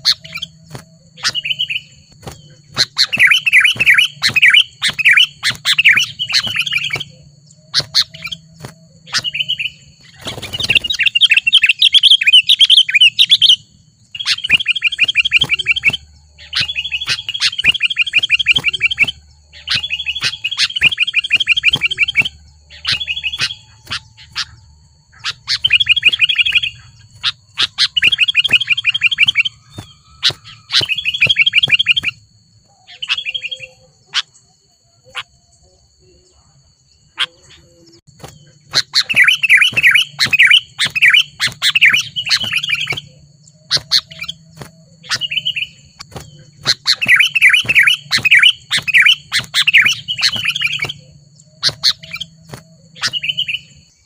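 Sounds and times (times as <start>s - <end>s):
bird chattering calls: 0.0s - 35.4s, 37.1s - 54.0s.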